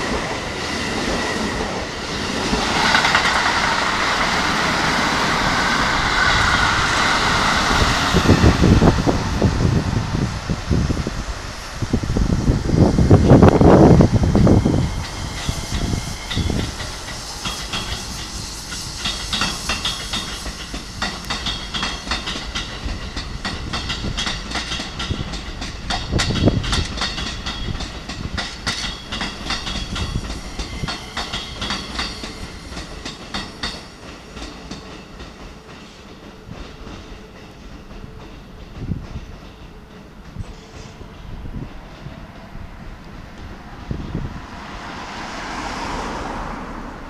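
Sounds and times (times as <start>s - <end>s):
train wheels clattering over rail joints: 0.0s - 10.8s, 12.6s - 44.3s.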